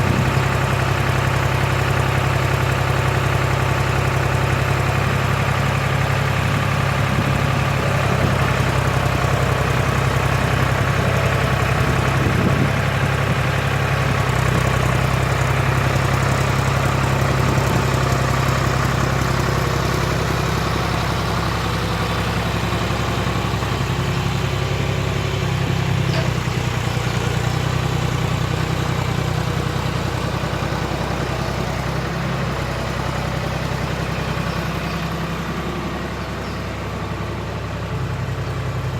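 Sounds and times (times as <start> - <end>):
backhoe engine idling: 0.0 - 38.9.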